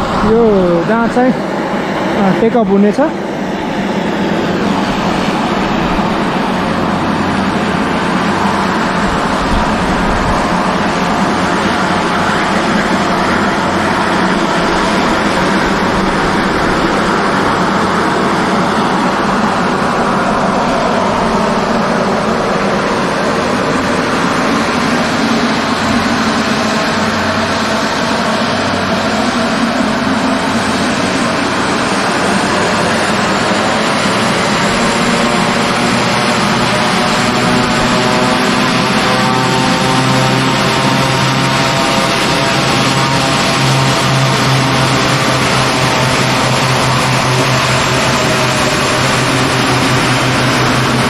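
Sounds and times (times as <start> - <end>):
turboprop plane engines droning: 0.0 - 51.0.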